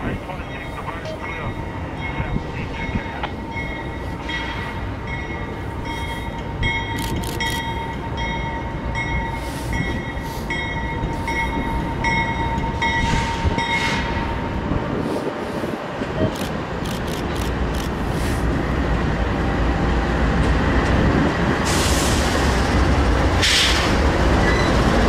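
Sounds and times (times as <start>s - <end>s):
locomotive engines rumbling: 0.0s - 25.0s.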